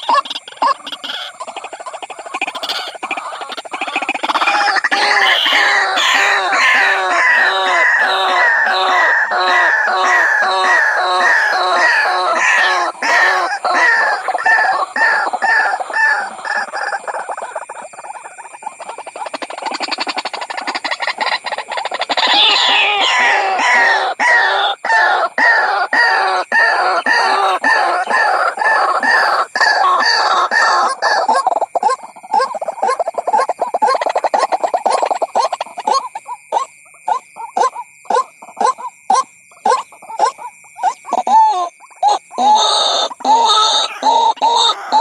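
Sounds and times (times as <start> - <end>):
bird calls repeated notes: 0.0 - 45.0.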